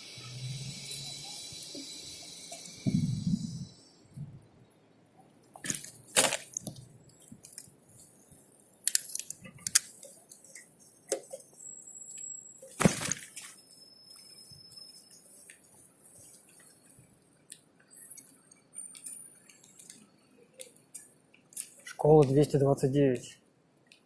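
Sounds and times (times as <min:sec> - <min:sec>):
faint road noise: 0:00.0 - 0:24.0.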